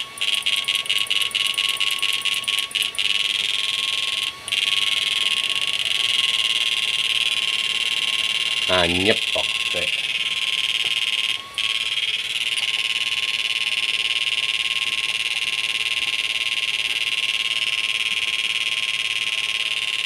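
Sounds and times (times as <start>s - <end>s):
high-pitched electrical buzz: 0.0s - 20.0s.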